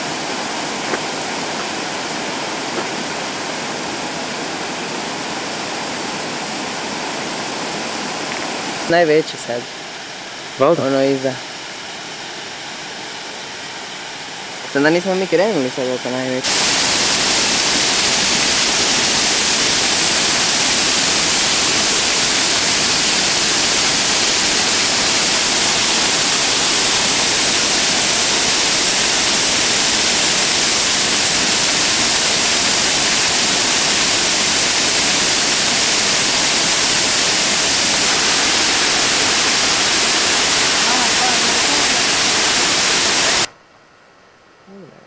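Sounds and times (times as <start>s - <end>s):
waterfall rushing: 0.0s - 43.5s.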